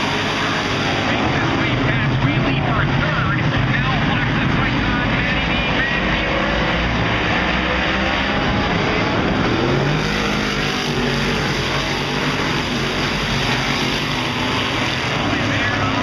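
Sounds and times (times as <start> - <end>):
engine revving: 0.0 - 16.0
race car engines din: 0.0 - 16.0.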